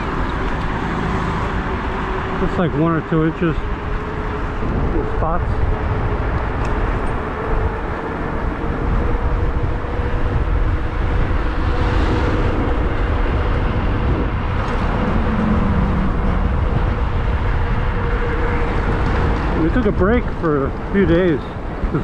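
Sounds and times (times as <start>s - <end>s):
road and tyre noise: 0.0s - 22.0s
wind rushing over microphone: 0.0s - 22.0s.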